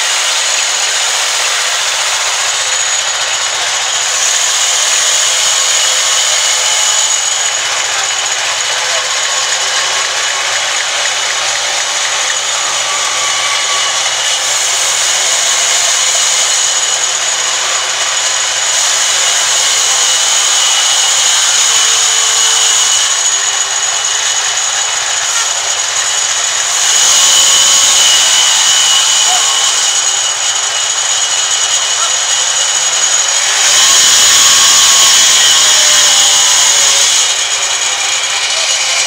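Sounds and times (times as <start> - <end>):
band saw cutting log: 0.0 - 39.0.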